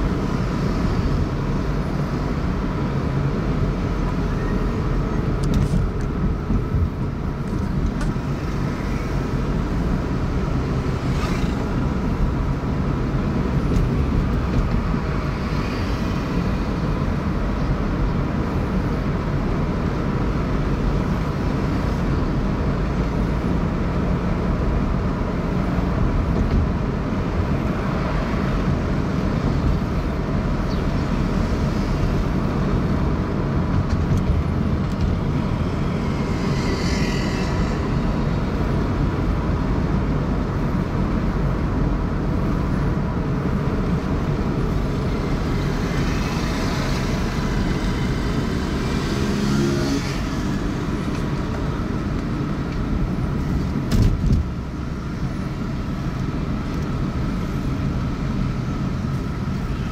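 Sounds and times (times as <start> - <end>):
road and traffic noise: 0.0 - 59.9
vehicles passing: 0.0 - 59.9.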